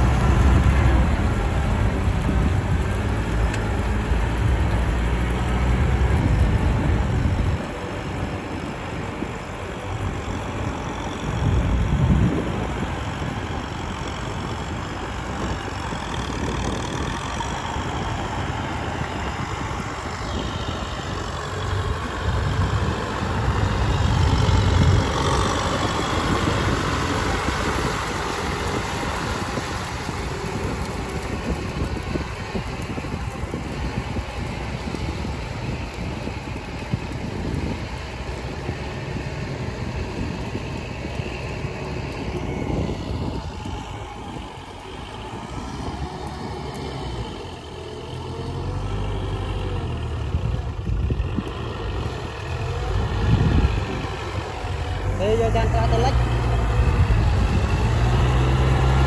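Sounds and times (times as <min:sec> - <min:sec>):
diesel tractor engines under load: 0:00.0 - 0:59.0.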